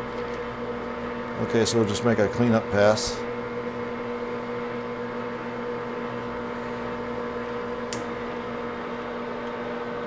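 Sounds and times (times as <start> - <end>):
lathe running hum: 0.0 - 10.0.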